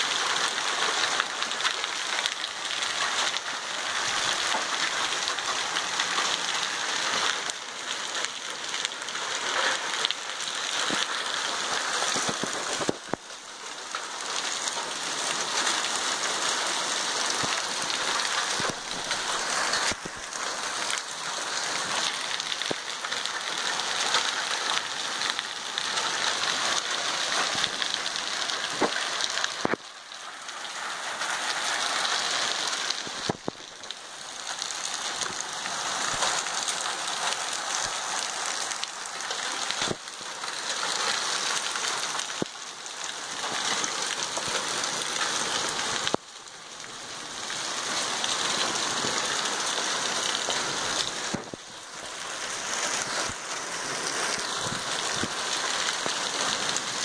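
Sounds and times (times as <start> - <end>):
hailstones hitting: 0.0 - 57.0
heavy rain downpour: 0.0 - 57.0.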